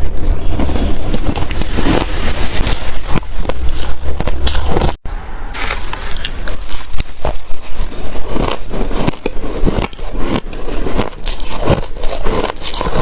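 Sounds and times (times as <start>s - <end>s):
shaved ice crunching while chewed: 0.0s - 5.0s, 5.6s - 13.0s.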